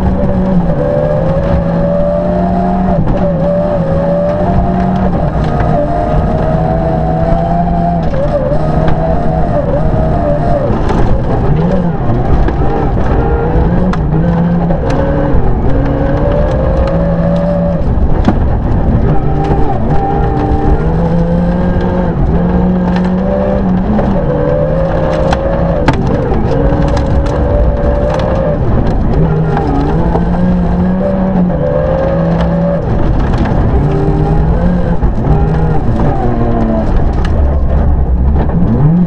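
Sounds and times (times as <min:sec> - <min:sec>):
car engine revving hard: 0:00.0 - 0:39.0
tyres rumbling on gravel: 0:00.0 - 0:39.0.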